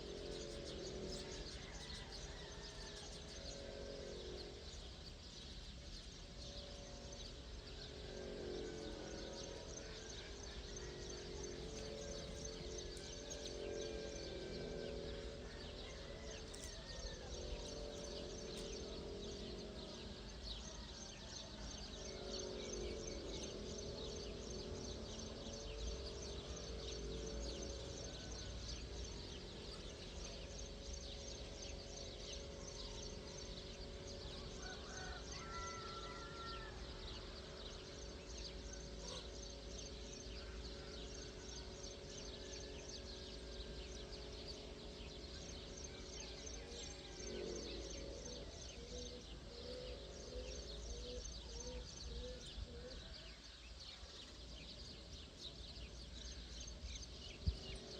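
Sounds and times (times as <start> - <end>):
birds chirping: 0.0 - 57.9
low wavering hum: 0.0 - 57.9.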